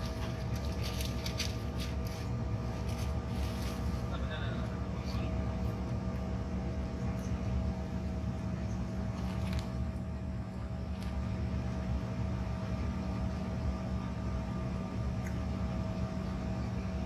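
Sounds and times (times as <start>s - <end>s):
jet engines humming: 0.0s - 17.0s
low airframe rumble: 0.0s - 17.0s.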